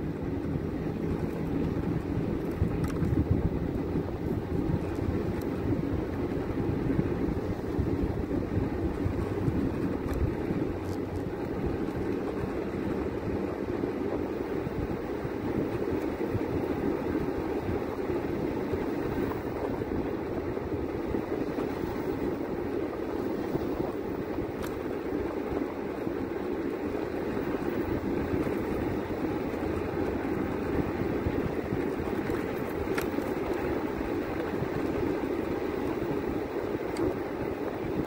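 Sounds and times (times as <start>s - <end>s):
vehicle road and engine rumble: 0.0s - 38.0s.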